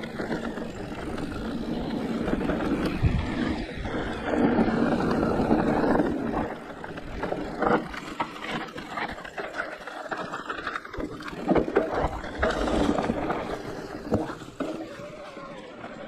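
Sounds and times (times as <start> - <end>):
tyre noise on rough trail: 0.0 - 16.0.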